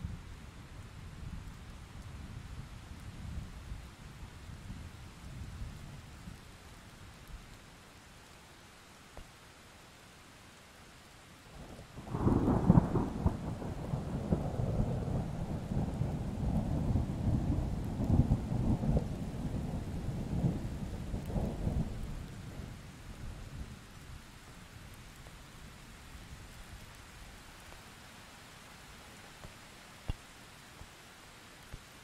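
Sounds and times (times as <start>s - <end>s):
faint steady rain: 0.0s - 32.0s.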